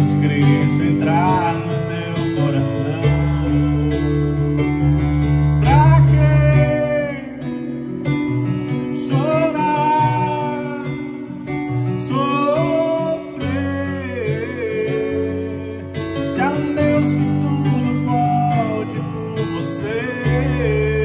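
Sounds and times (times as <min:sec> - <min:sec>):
man singing gospel song: 0:00.0 - 0:08.1, 0:08.7 - 0:21.0
electric keyboard chords: 0:00.0 - 0:21.0.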